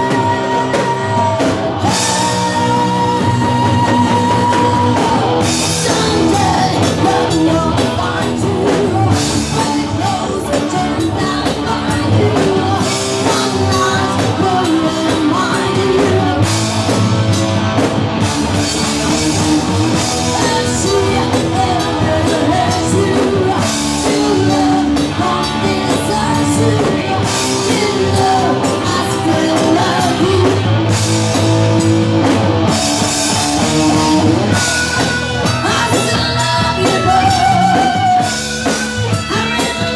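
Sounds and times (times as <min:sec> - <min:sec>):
woman singing: 0:00.0 - 0:17.0, 0:19.3 - 0:31.0, 0:34.0 - 0:39.9
bass guitar: 0:00.0 - 0:39.9
drum kit: 0:00.0 - 0:39.9
electric guitar: 0:00.0 - 0:39.9.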